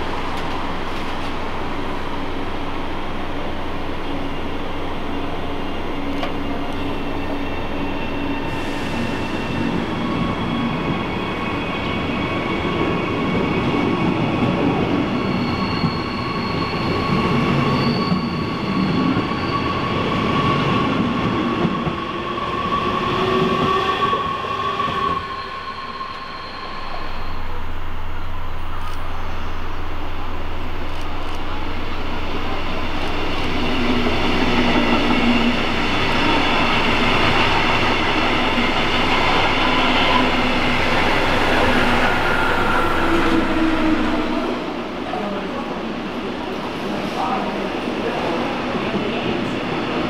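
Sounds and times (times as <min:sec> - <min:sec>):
train high whine: 0:00.0 - 0:50.0
train wheels rumbling on rail: 0:00.0 - 0:50.0.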